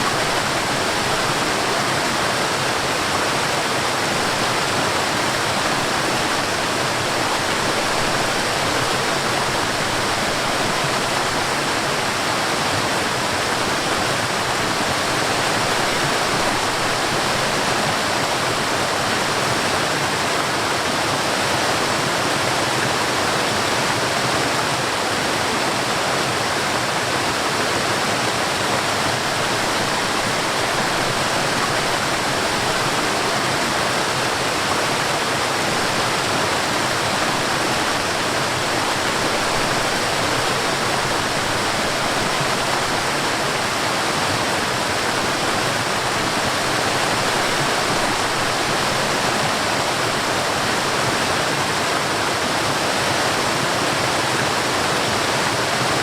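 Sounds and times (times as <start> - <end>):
stream rushing over waterfall: 0.0 - 56.0.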